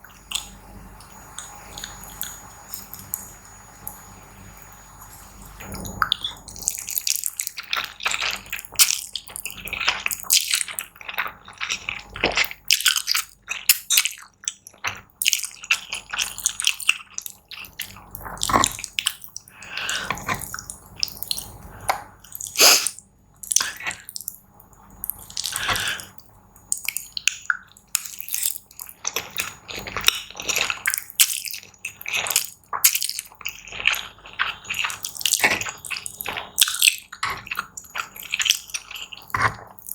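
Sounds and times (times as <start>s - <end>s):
wet chewing and mouth smacks: 0.2s - 3.3s, 5.0s - 39.9s.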